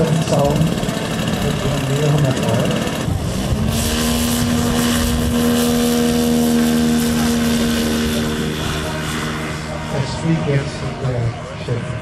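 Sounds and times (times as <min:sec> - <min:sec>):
model plane engine droning: 0:00.0 - 0:12.0.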